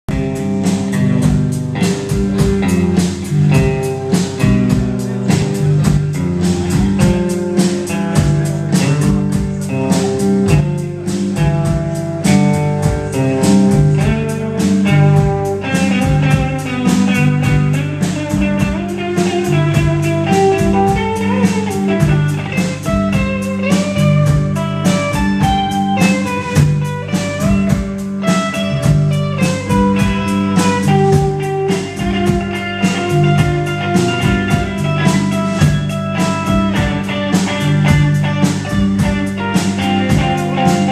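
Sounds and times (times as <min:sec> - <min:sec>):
drum kit steady beat: 0:00.0 - 0:40.9
rock band playing live: 0:00.1 - 0:40.9.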